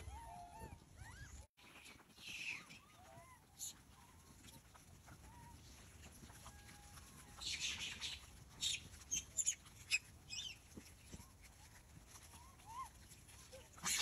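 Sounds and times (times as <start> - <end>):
monkeys chirping and squealing: 0.0 - 10.6, 11.2 - 14.0.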